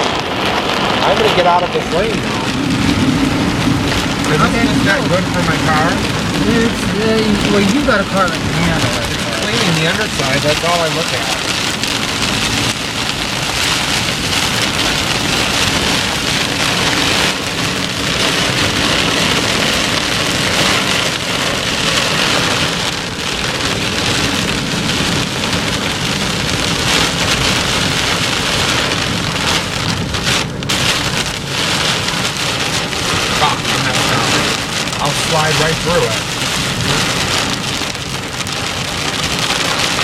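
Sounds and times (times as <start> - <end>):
heavy rain on car roof: 0.0 - 40.0
tyres hissing on wet road: 0.0 - 40.0.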